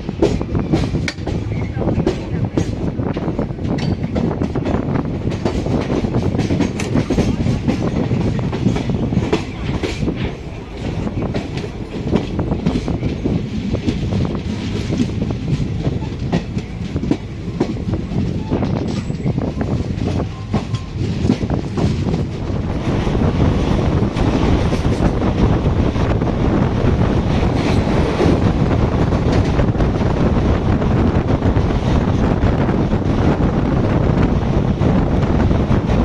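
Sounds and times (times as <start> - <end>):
train rumbling: 0.0 - 36.0
train wheels clattering on rails: 0.0 - 36.0.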